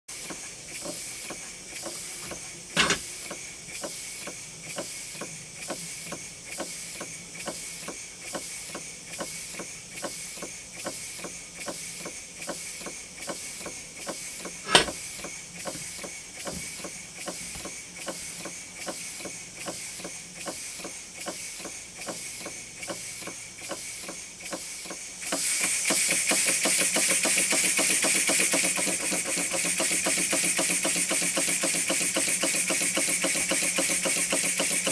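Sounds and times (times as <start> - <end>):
model steam engine puffing: 0.1 - 34.9.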